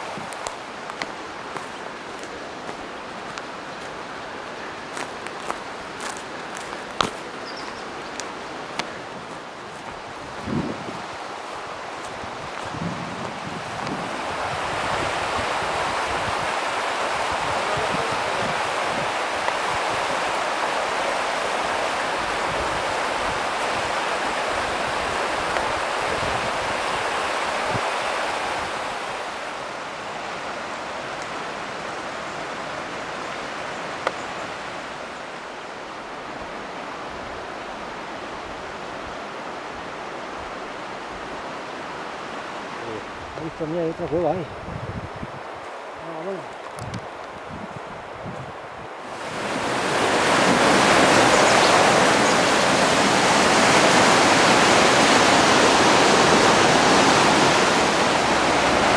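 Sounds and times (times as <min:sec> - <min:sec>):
flowing river water: 0:00.0 - 0:58.9.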